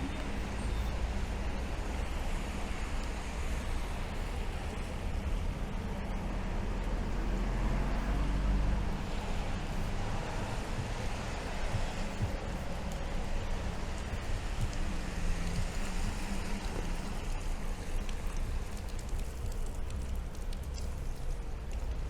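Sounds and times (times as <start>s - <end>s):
low vehicle rumble: 0.0s - 22.0s
steady rain: 0.0s - 22.0s
traffic on wet streets: 0.0s - 22.0s.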